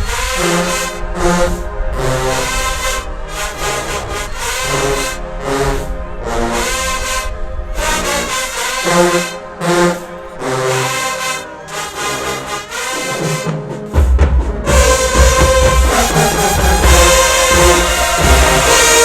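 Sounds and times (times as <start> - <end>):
marching band brass chords: 0.0 - 19.0.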